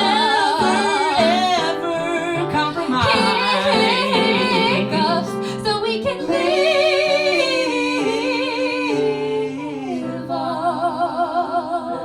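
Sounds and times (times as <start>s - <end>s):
person singing with vibrato: 0.0s - 12.0s
piano chords: 0.0s - 12.0s.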